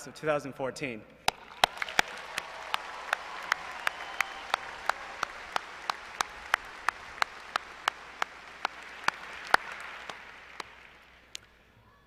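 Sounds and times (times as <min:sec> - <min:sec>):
close hand claps: 0:01.2 - 0:11.6
audience applauding: 0:01.3 - 0:11.6.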